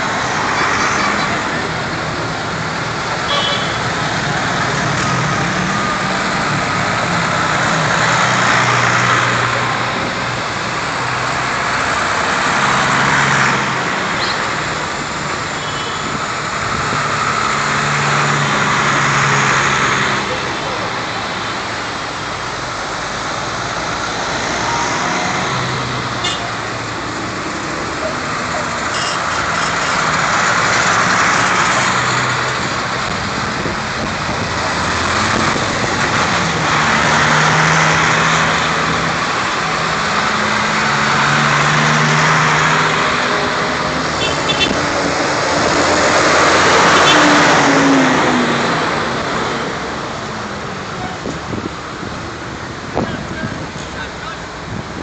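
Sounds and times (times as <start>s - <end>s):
tractors driving past: 0.0s - 55.0s.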